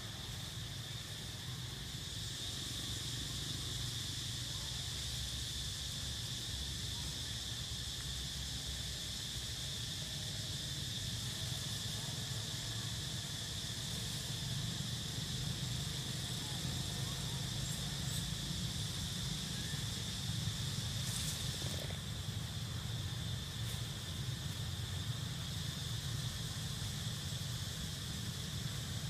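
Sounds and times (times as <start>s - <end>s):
insect chorus buzzing: 0.0s - 29.0s.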